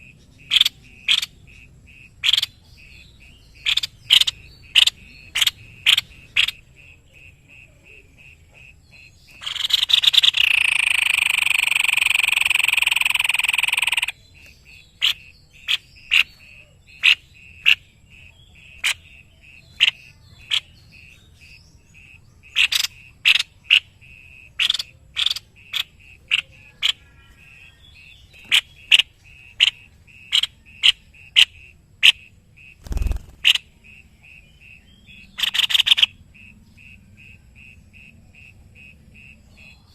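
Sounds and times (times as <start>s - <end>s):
loud buzzy bird chatter: 0.0s - 39.9s.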